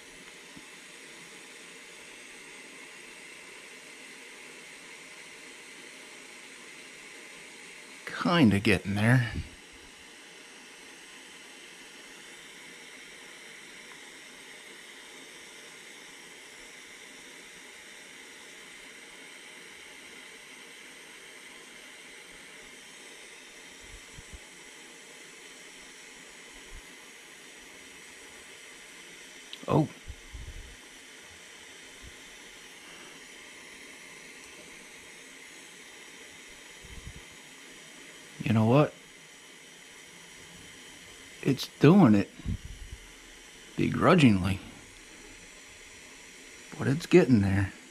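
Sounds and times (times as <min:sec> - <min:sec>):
soldering iron gas hiss: 0:00.0 - 0:47.9.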